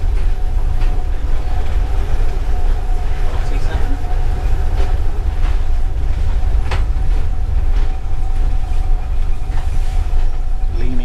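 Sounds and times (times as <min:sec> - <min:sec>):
wheels clicking over rail joints: 0:00.0 - 0:10.6
carriage wheels rumbling: 0:00.0 - 0:11.0.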